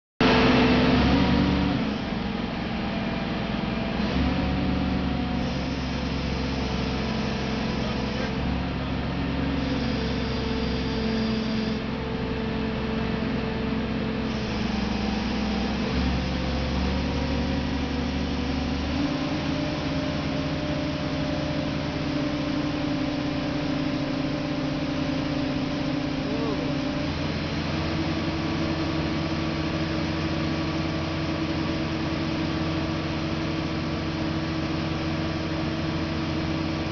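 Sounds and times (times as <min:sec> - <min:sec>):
crane engine running: 0:00.2 - 0:36.9.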